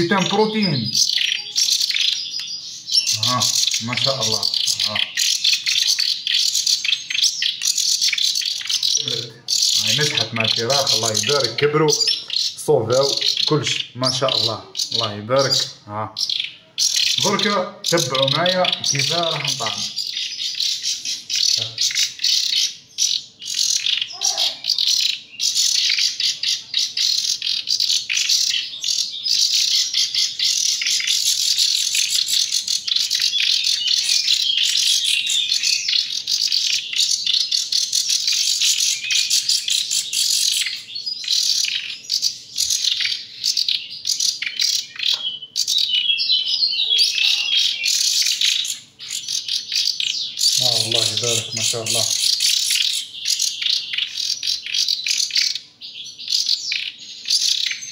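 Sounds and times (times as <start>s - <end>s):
chicks chirping for food: 0.0s - 57.9s.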